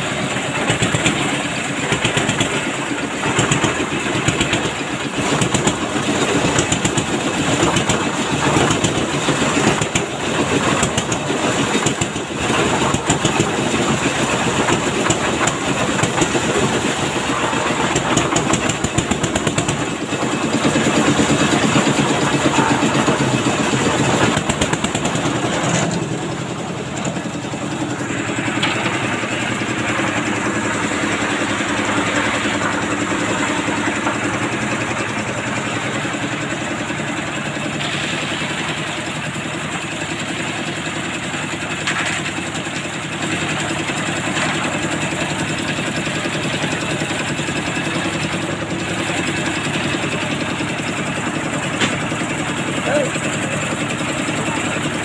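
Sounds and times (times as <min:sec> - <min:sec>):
concrete mixer engine running: 0:00.0 - 0:55.0.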